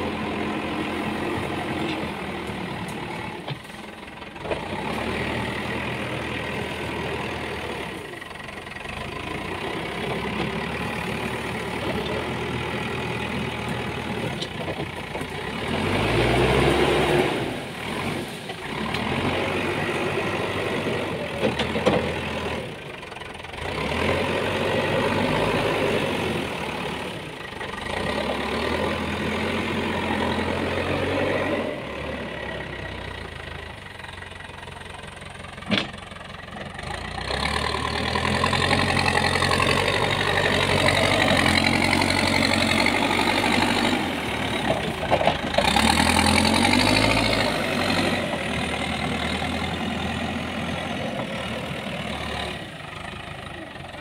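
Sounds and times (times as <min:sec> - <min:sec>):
backhoe loader engine revving: 0:00.0 - 0:54.0.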